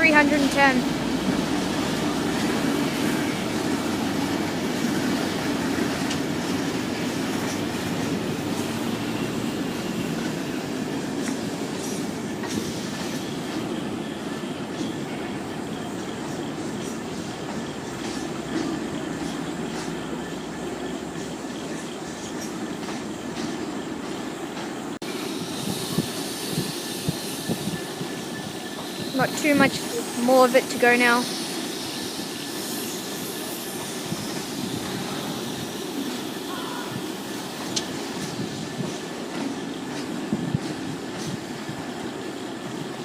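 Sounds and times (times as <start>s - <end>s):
steel wheels rumbling on rail: 0.0s - 43.0s.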